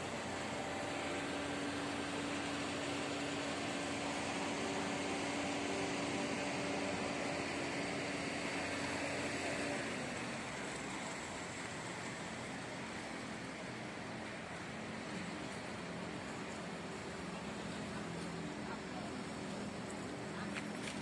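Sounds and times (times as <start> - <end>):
construction machinery drone: 0.0 - 21.0.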